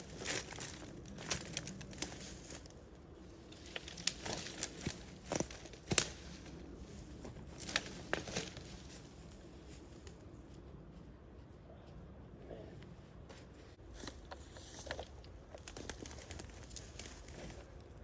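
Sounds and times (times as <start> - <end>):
leaves and twigs crunching underfoot: 0.0 - 11.1, 13.3 - 18.0.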